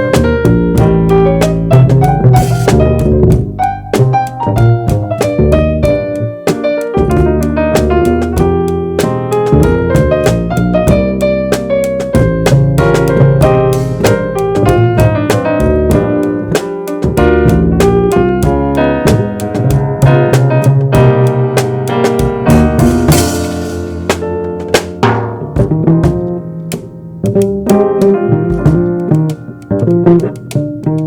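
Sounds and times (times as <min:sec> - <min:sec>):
drums: 0:00.0 - 0:31.0
walking bass line: 0:00.0 - 0:31.0.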